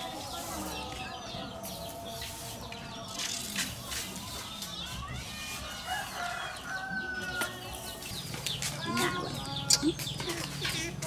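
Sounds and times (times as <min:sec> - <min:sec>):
bird chirps and clucks: 0:00.0 - 0:11.0.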